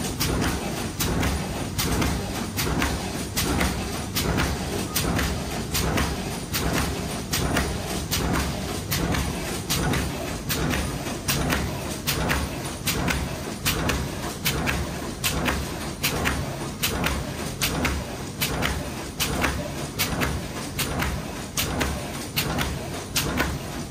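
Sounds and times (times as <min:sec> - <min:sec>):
production machine clacking: 0:00.0 - 0:23.9.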